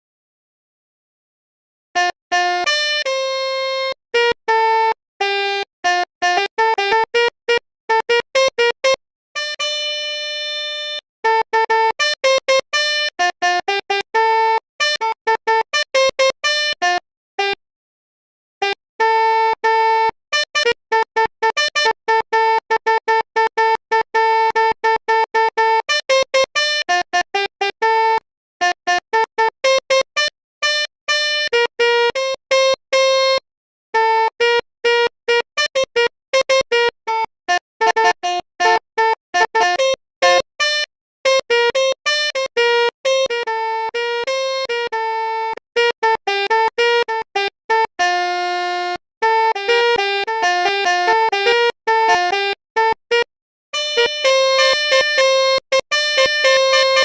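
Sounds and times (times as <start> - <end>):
electronic bus horn tune: 2.0 - 17.6, 18.6 - 57.0.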